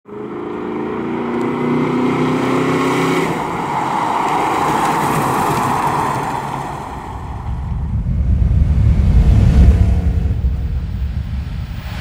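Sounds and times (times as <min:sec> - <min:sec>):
exhaust and road noise rush: 0:00.0 - 0:12.0.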